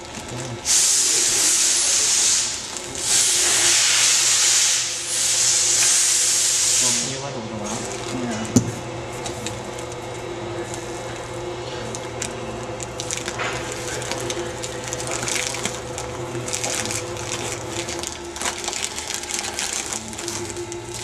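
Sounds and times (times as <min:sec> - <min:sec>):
plastic film crinkling: 0:00.0 - 0:04.7, 0:07.6 - 0:08.4, 0:09.3 - 0:21.0
low machine hum: 0:00.0 - 0:21.0.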